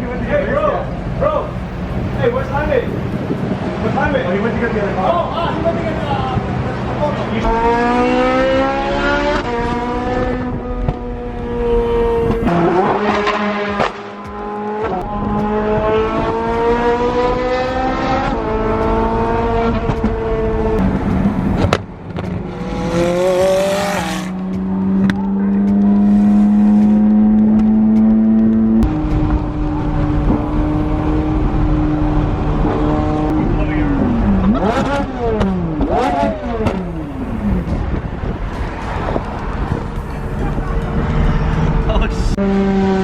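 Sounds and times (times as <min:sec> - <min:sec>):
car engine accelerating through gears: 0:06.4 - 0:43.0.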